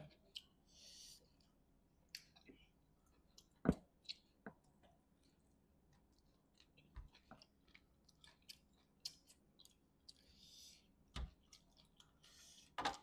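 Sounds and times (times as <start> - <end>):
person chewing: 2.1 - 13.0.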